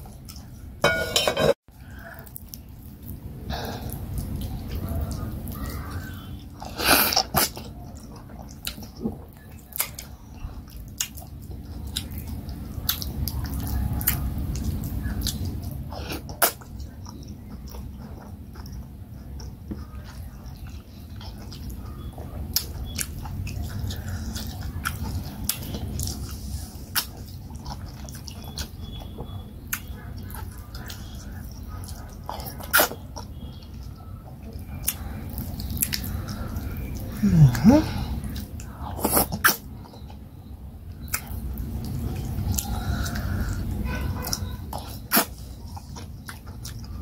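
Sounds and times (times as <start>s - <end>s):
chewing and lip smacks: 0.0s - 0.8s, 1.8s - 47.0s.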